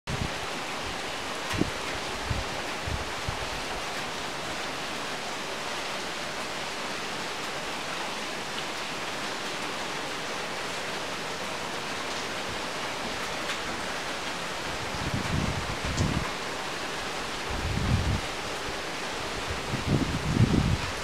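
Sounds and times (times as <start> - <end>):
heavy rain falling: 0.1 - 21.0.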